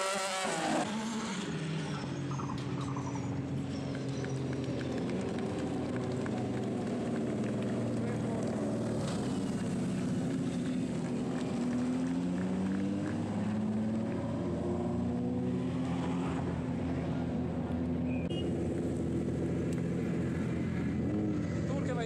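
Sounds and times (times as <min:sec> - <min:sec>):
racing engines revving: 0:00.0 - 0:22.0.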